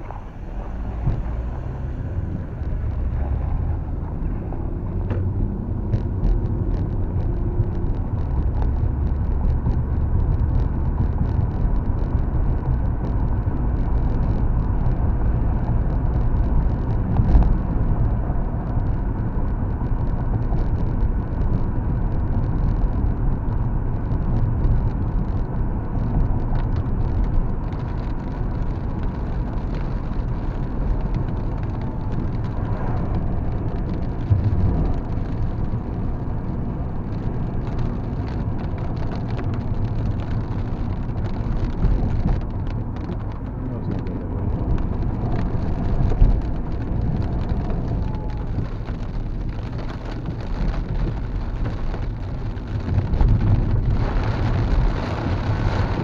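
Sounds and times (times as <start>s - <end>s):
tyre noise on wet road: 0.0s - 56.0s
raindrops ticking on windshield: 0.1s - 56.0s.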